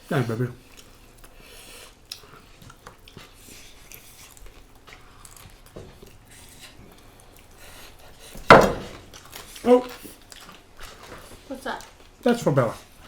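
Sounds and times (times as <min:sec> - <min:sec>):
mouth chewing crispy food: 0:00.0 - 0:08.4, 0:09.0 - 0:13.0.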